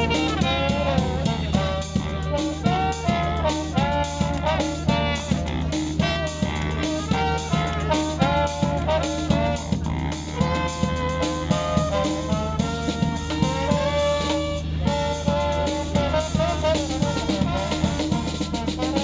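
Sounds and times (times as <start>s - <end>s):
brass melody: 0.0s - 19.0s
drum kit beat: 0.0s - 19.0s.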